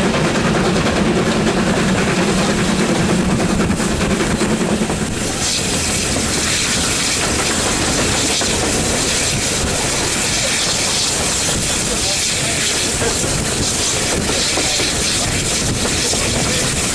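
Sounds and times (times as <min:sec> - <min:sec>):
steam locomotive working: 0:00.0 - 0:16.9
train wheels on rails: 0:00.0 - 0:16.9.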